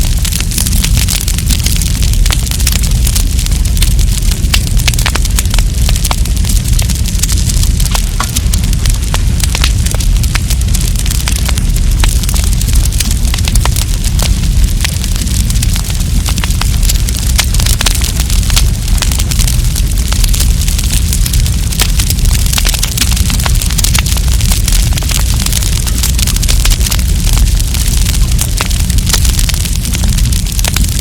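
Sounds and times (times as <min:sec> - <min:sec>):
campfire crackling and popping: 0:00.0 - 0:31.0
low rumble of fire: 0:00.0 - 0:31.0.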